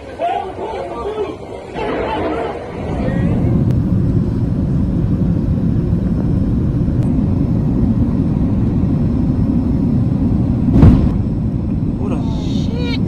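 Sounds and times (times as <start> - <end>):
aircraft in flight rumble: 0.0 - 13.0.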